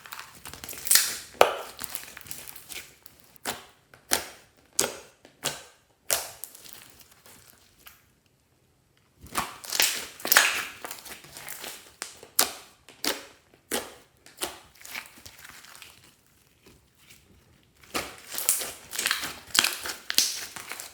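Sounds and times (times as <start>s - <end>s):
slime squished by hand crackling: 0.0s - 8.0s, 9.2s - 17.2s, 17.8s - 20.9s.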